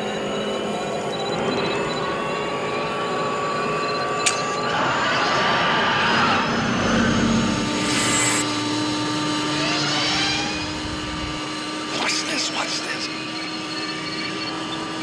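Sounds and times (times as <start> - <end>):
thin rising whine: 0.0 - 15.0.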